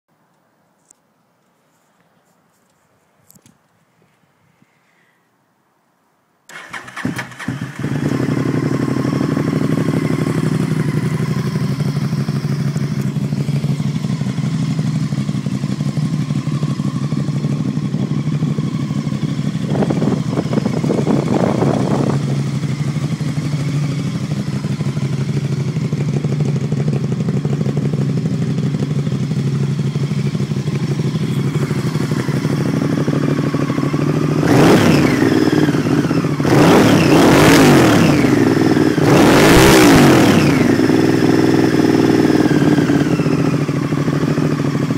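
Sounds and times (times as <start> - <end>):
motorcycle engine idling and revving: 6.5 - 44.9.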